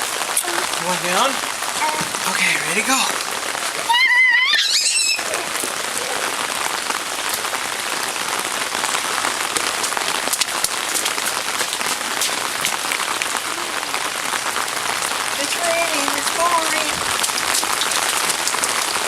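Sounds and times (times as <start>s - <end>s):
heavy rain pouring: 0.0s - 19.0s
sharp ticks of raindrops: 0.0s - 19.0s.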